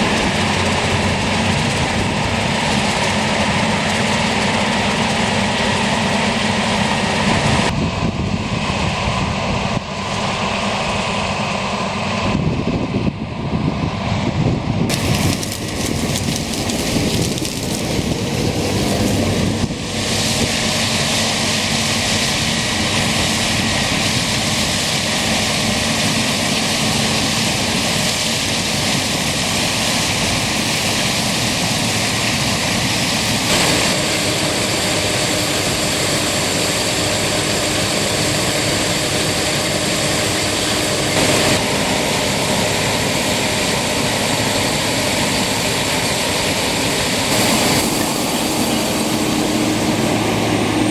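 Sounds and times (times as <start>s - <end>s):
combine harvester roar: 0.0s - 50.9s.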